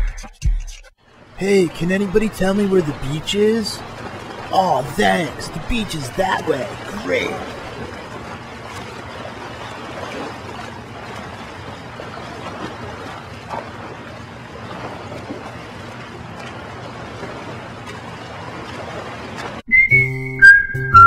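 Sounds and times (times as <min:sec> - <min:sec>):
surf washing on a beach: 0:01.2 - 0:19.6.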